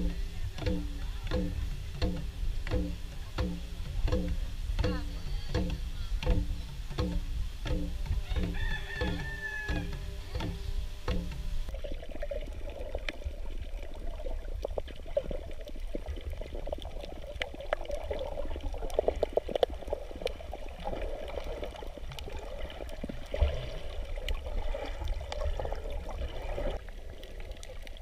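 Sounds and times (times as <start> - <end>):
low underwater rumble: 0.0 - 28.0
water sloshing and gurgling: 0.0 - 28.0.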